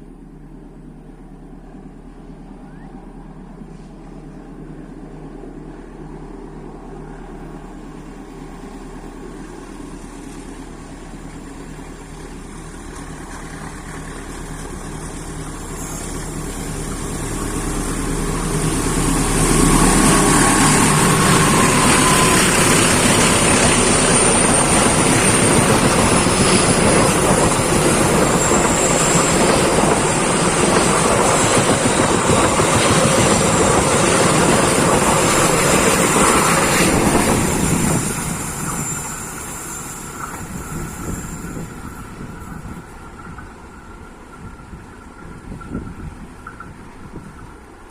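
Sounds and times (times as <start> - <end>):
diesel locomotive engine hum: 0.0 - 47.9
train running on rails: 0.0 - 47.9.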